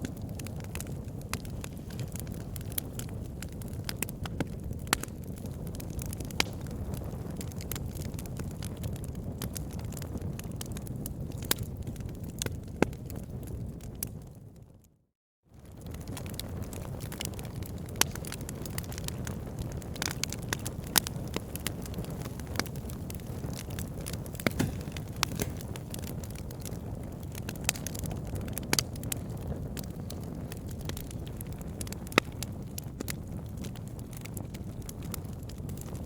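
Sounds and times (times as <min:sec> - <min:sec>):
logs crackling and popping: 0:00.0 - 0:14.2, 0:15.6 - 0:36.0
wood fire flames rushing: 0:00.0 - 0:14.2, 0:15.6 - 0:36.0.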